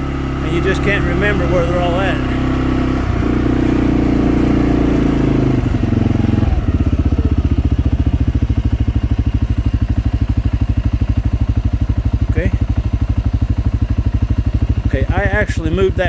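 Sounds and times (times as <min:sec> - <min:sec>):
small vehicle engine running: 0:00.0 - 0:16.0.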